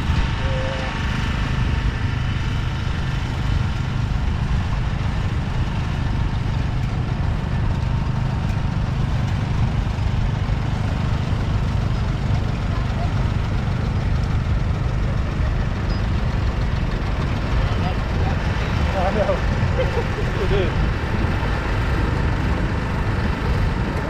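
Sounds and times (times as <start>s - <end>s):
tractor engines idling: 0.0s - 24.0s.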